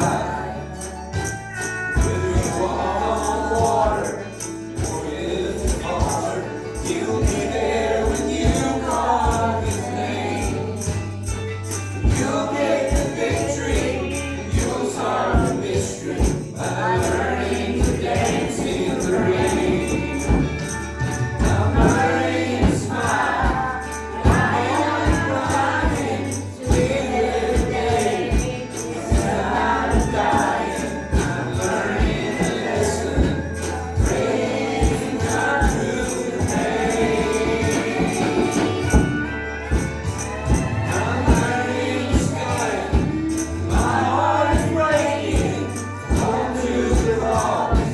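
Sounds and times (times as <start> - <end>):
bass: 0.0 - 47.9
group of voices singing: 0.0 - 47.9
tambourine: 0.0 - 47.9.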